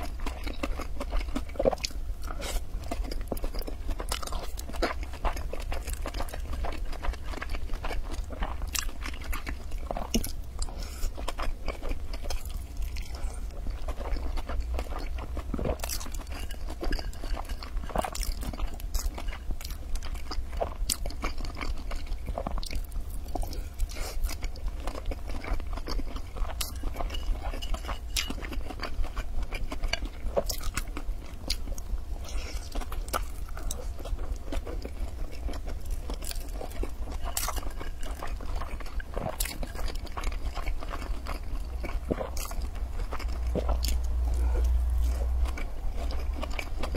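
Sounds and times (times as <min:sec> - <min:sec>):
person chewing food: 0:00.0 - 0:46.9
steady low hum: 0:00.0 - 0:46.9.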